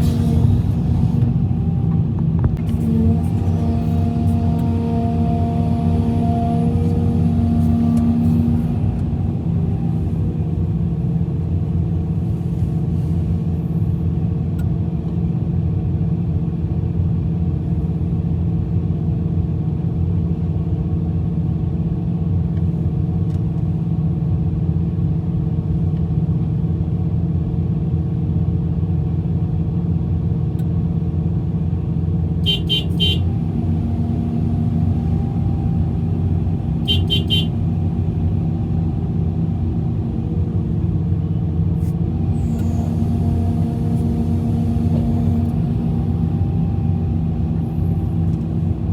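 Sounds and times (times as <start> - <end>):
heavy diesel engine running: 0.0 - 22.4, 29.9 - 48.9.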